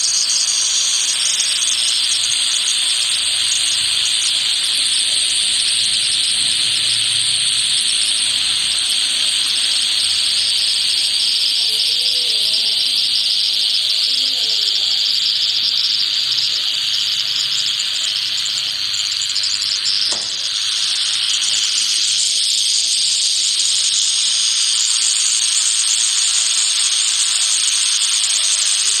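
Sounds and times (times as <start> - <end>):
rattlesnake rattling its tail: 0.0 - 29.0.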